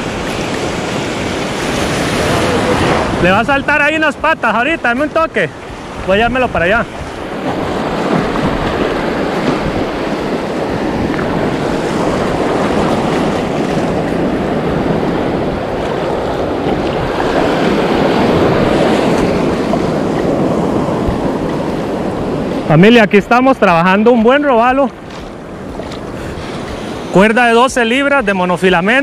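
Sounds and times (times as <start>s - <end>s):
surf breaking and foaming: 0.0s - 29.0s
wind rumbling on microphone: 0.0s - 29.0s.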